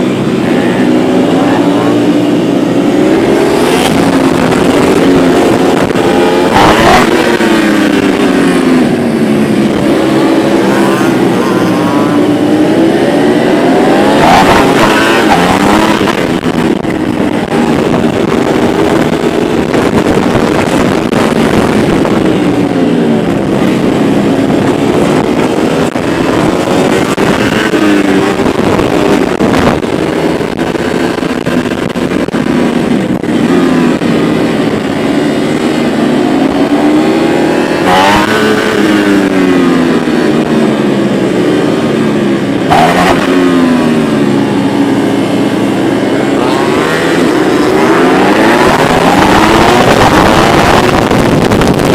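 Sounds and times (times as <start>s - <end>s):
motorcycles racing: 0.0s - 51.9s.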